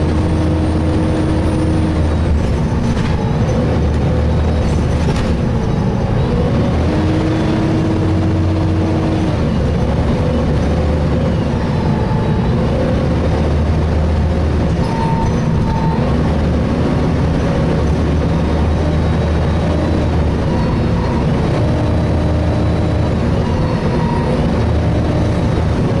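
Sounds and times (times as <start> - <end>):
bus engine running: 0.0 - 26.0
road noise: 0.0 - 26.0.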